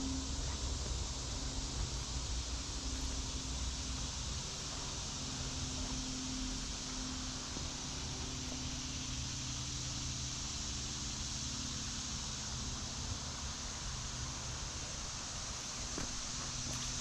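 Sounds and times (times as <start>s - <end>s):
creek hiss: 0.0s - 17.0s
faint low drone: 0.0s - 17.0s
insects: 0.0s - 17.0s.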